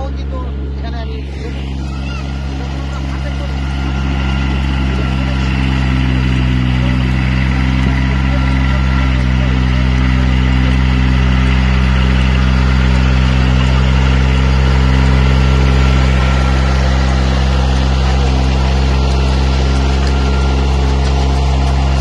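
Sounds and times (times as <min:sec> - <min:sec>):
farm machine engine running: 0:00.0 - 0:22.0.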